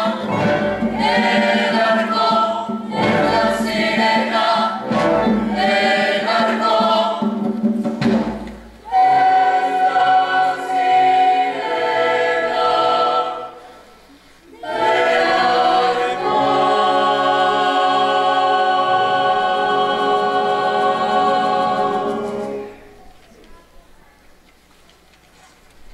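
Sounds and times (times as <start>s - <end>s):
choir singing: 0.0s - 7.5s, 8.8s - 23.0s.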